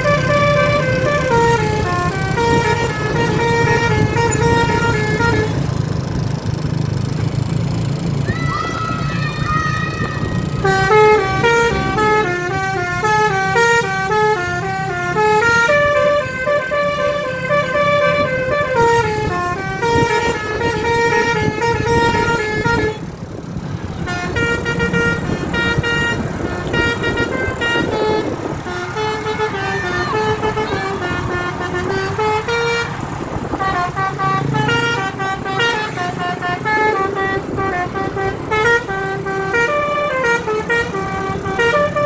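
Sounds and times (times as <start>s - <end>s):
musical bus horn tune: 0.0s - 5.8s, 10.5s - 42.0s
bus engine running: 0.0s - 42.0s.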